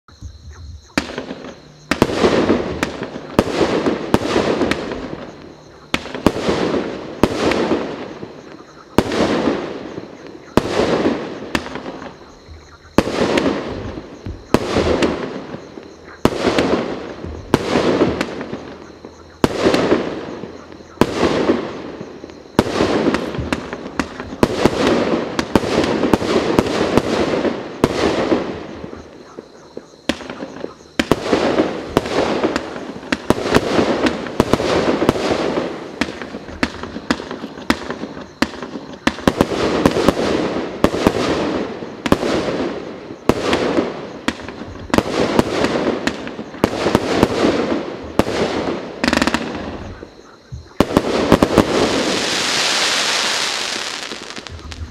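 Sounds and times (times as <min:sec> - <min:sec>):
firework bangs with crackle: 0:00.8 - 0:54.9.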